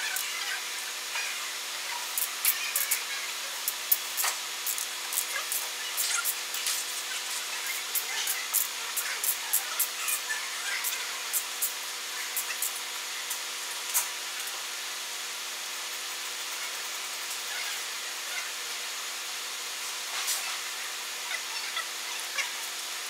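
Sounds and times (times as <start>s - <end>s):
machine hiss with humming: 0.0s - 23.0s.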